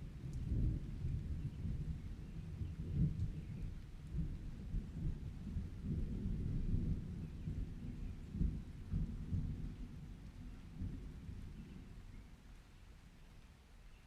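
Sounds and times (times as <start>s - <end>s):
rolling thunder: 0.0s - 11.9s
faint rain: 0.0s - 14.0s.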